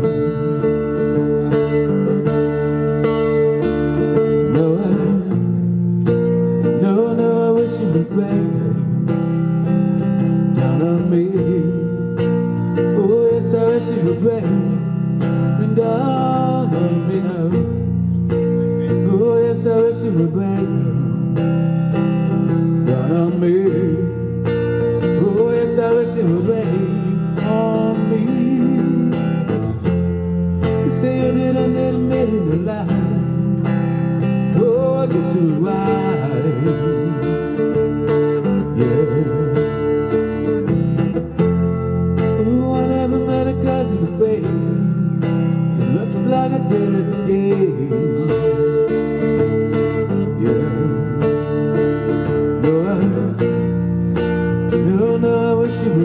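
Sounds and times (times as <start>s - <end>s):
man singing through microphone: 0.0s - 5.8s, 6.5s - 9.2s, 10.3s - 21.5s, 22.7s - 30.0s, 30.7s - 40.5s, 42.2s - 53.9s, 54.7s - 56.0s
electric bass: 0.0s - 56.0s
electric guitar: 0.0s - 56.0s.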